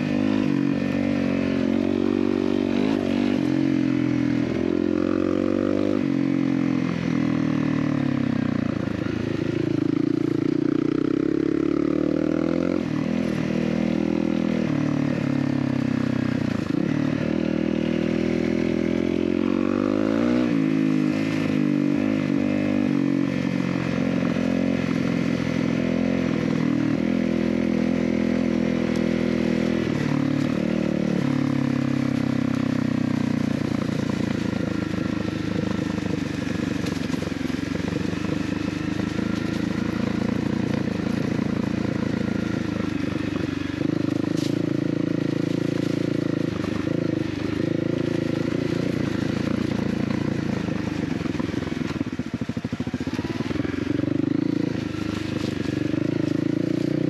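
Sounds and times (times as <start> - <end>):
dirt bike engine revving: 0.0 - 8.1, 9.3 - 57.0.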